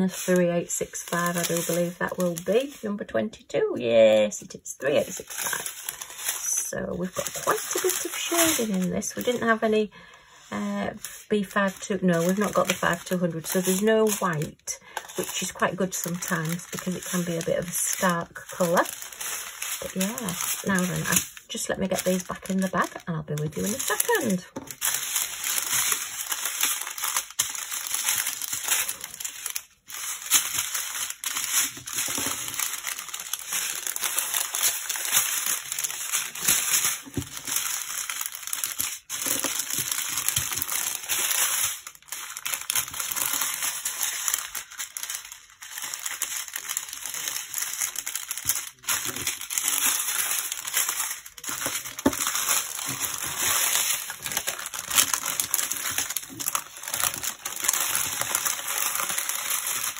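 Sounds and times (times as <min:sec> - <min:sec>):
plastic bags crinkling: 0:00.0 - 0:03.1, 0:04.5 - 0:10.2, 0:10.8 - 0:59.9.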